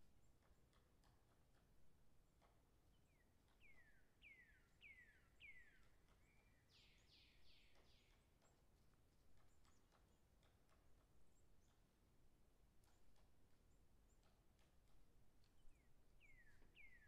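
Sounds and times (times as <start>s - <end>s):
distant woodpecker pecking: 0.0s - 17.0s.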